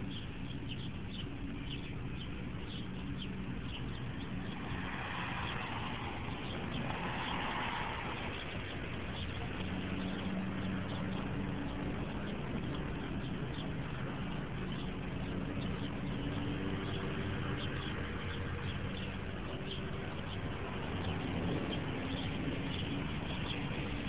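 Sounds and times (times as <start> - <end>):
low traffic rumble: 0.0 - 24.0
vehicle passing: 0.0 - 24.0.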